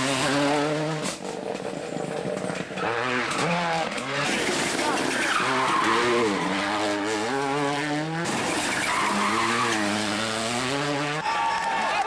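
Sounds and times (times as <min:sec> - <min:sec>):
rally car engine revving: 0:00.0 - 0:01.3, 0:02.2 - 0:11.6.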